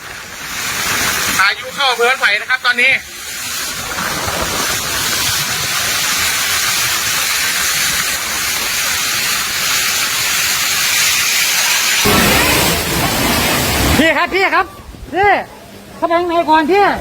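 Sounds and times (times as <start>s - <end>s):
heavy rain: 0.0s - 15.1s.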